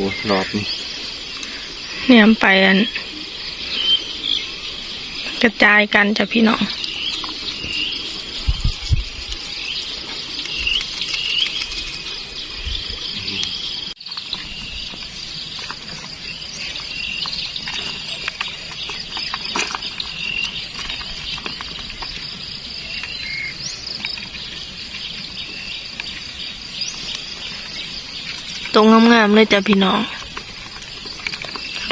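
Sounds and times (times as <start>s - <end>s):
bird chirps: 0.0s - 31.9s
insects droning: 0.0s - 31.9s.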